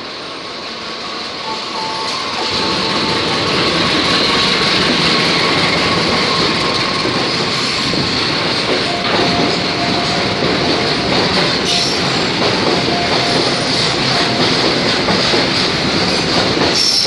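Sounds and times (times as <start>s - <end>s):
diesel locomotive engine: 0.0s - 17.0s
freight train rail noise: 0.0s - 17.0s.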